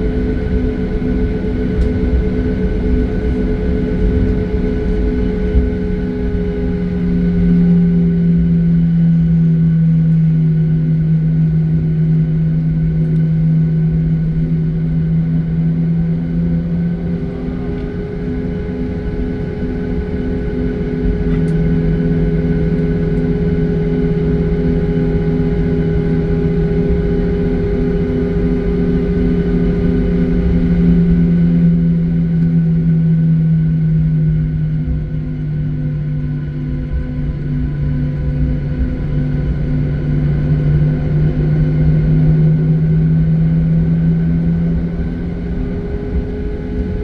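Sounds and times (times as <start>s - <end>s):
jet engines droning: 0.0s - 47.0s
steady hum tones: 0.0s - 47.0s.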